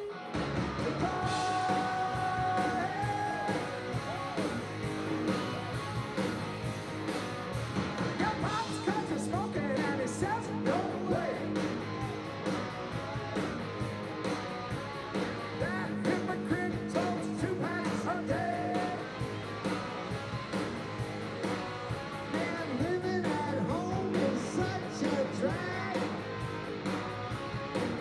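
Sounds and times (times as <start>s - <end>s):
drums: 0.0s - 28.0s
electric guitar: 0.0s - 28.0s.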